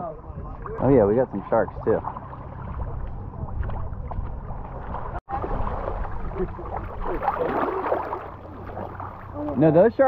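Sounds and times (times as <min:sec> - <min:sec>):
seawater sloshing and lapping: 0:00.5 - 0:10.0.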